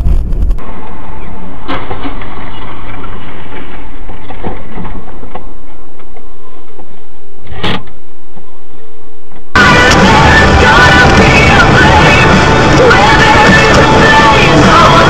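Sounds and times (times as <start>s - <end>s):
car engine and road noise: 0.0s - 8.5s, 9.4s - 15.0s.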